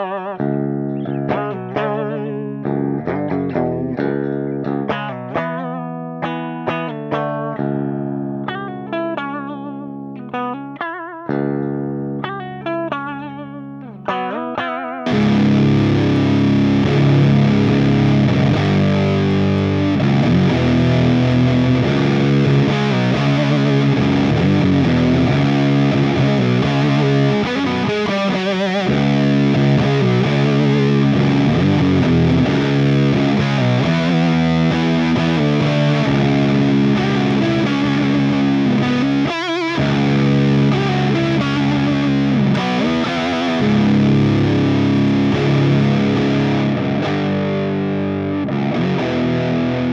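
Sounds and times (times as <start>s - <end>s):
fuzz electric guitar chords: 0.0s - 49.9s.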